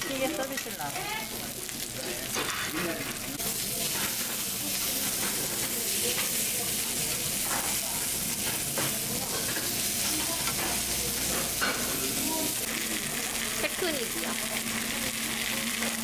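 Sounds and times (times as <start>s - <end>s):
meat sizzling on a griddle: 0.0s - 16.0s.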